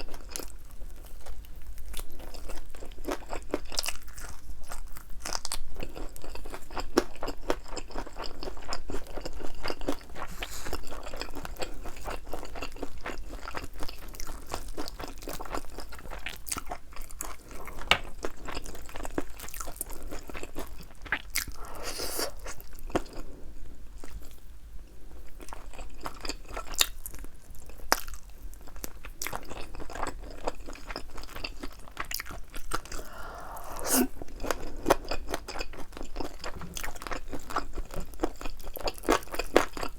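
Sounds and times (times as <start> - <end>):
crunchy chewing of fried chicken: 0.0 - 39.9.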